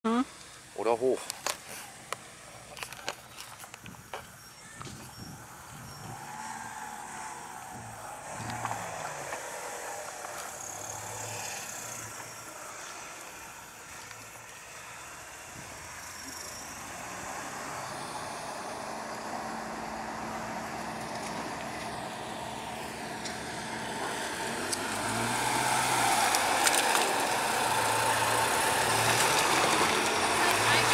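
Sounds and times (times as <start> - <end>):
suv engine at low revs: 0.1 - 30.9.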